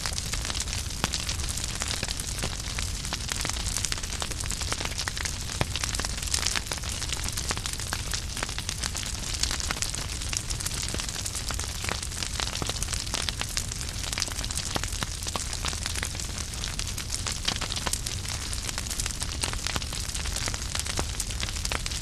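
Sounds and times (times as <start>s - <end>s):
logs crackling and popping: 0.0s - 22.0s.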